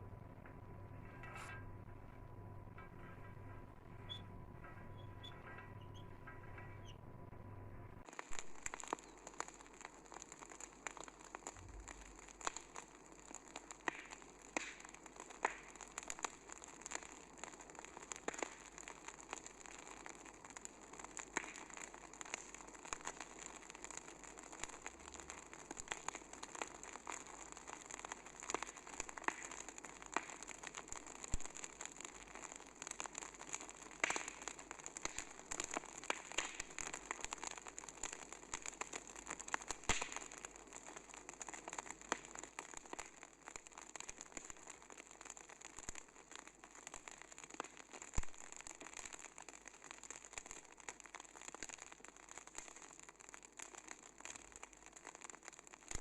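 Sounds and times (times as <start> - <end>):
steady hiss with crackles: 0.0 - 56.0.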